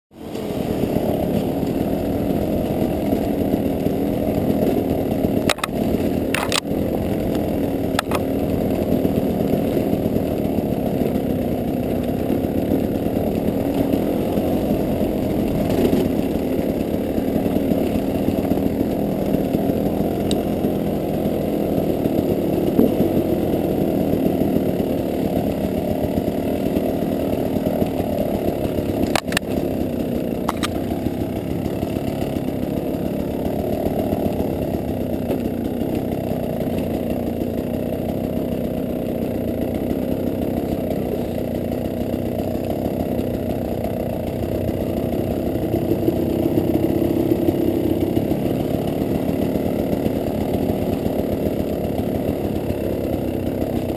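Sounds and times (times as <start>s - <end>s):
dirt bike engine revving: 0.2s - 53.9s.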